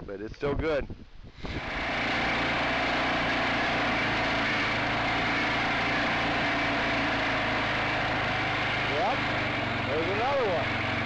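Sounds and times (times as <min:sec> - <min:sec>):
atv engine running: 0:01.4 - 0:11.0.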